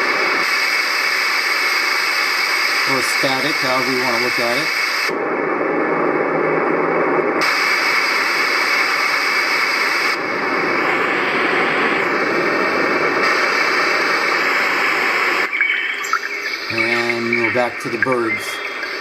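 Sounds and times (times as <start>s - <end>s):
white noise machine hiss: 0.0s - 19.0s.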